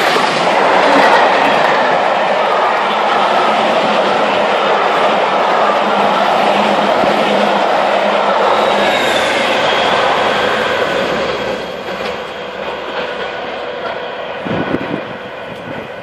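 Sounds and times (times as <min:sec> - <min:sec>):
train wheels rattling over rails: 0:00.0 - 0:16.0.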